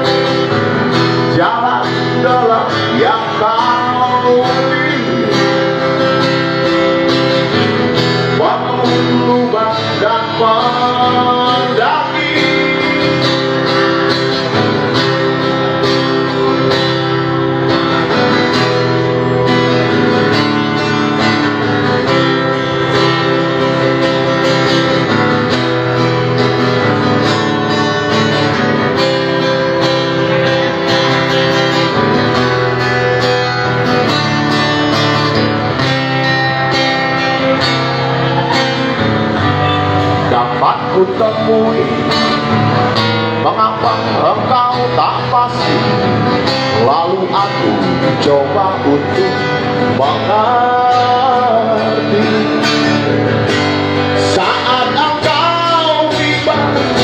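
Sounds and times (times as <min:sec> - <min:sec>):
guitar strummed and picked: 0:00.0 - 0:57.0
instrumental backing: 0:00.0 - 0:57.0.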